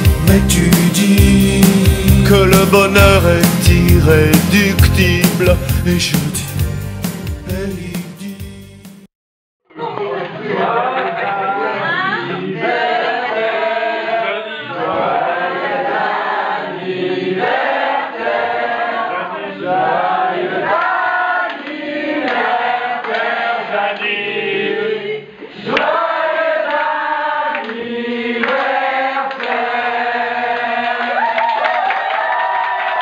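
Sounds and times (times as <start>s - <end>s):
group of people singing: 0.0s - 5.6s, 10.0s - 31.3s.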